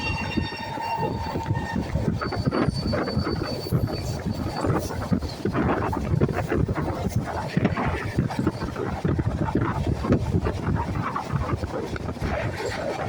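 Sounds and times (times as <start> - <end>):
train clatter: 0.0 - 13.0
train running rumble: 0.0 - 13.0
wind buffeting microphone: 0.0 - 13.0.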